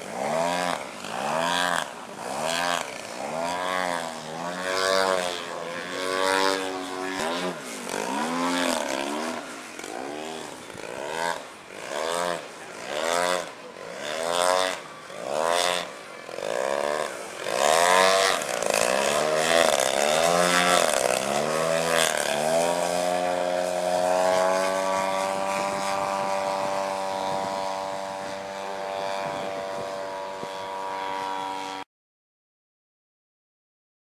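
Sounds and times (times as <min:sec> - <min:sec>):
propeller airplane engine: 0:00.0 - 0:31.8.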